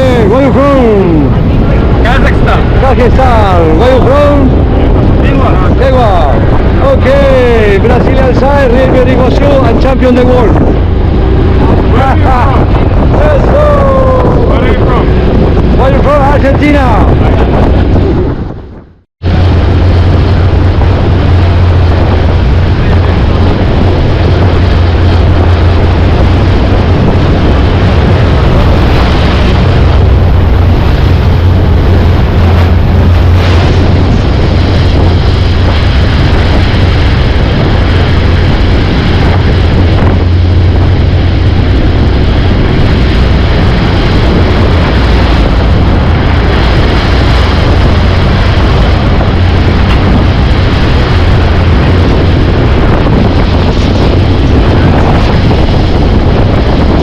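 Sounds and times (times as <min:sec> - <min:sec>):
motorboat engine droning: 0:00.0 - 0:57.0
wind buffeting microphone: 0:00.0 - 0:57.0.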